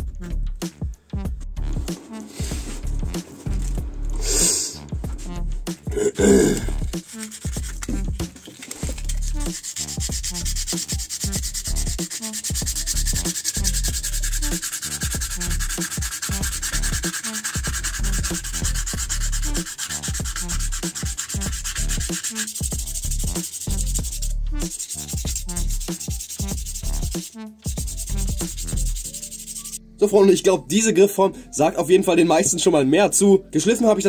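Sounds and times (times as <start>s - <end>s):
sandpaper rubbing on wood: 1.9s - 29.8s.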